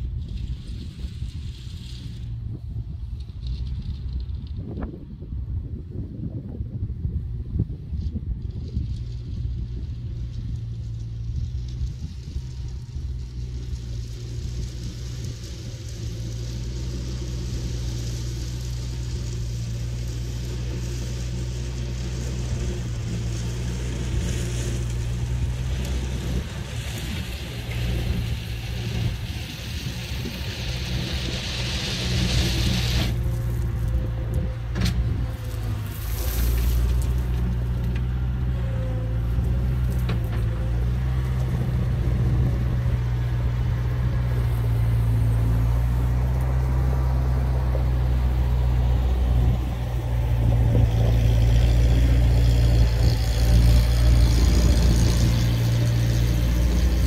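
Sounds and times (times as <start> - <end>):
loader engine running: 8.6 - 57.0.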